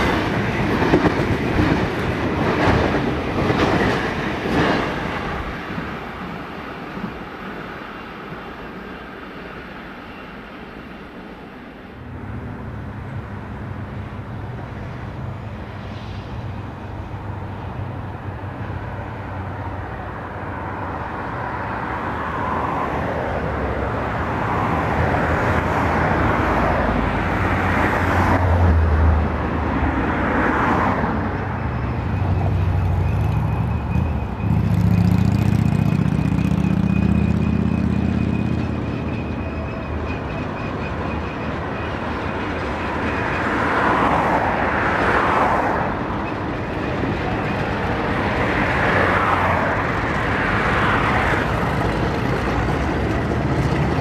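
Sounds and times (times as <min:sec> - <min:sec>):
faint train rail noise: 0:00.0 - 0:35.3, 0:36.4 - 0:54.0
diesel locomotive engines rumbling: 0:00.0 - 0:54.0.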